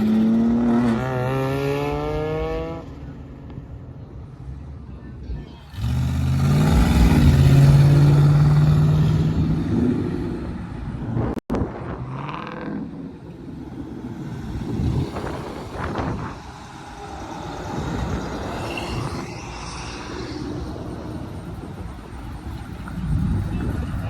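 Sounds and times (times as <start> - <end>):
car engines running: 0.0 - 24.0
cars passing by: 0.0 - 24.0.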